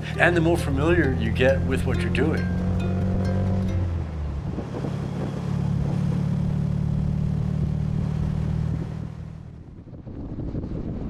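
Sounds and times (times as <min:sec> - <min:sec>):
car engine cruising: 0:00.0 - 0:10.2
road and wind noise: 0:00.0 - 0:11.0.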